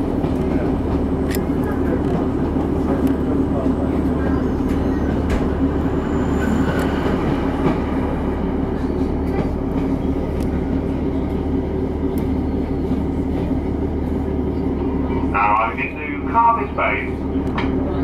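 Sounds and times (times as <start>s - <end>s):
train engine hum: 0.0s - 18.0s
train wheels rumbling: 0.0s - 18.0s.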